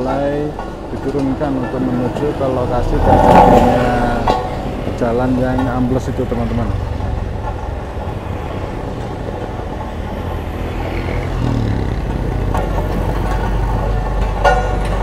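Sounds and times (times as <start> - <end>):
road roller diesel engine: 0.0 - 15.0
motorcycle passing: 2.0 - 15.0.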